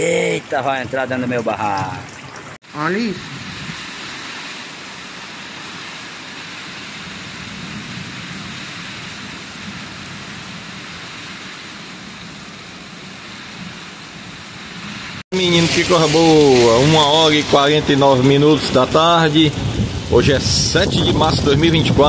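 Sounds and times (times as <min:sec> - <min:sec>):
heavy rain on trees and grass: 0:00.0 - 0:22.0.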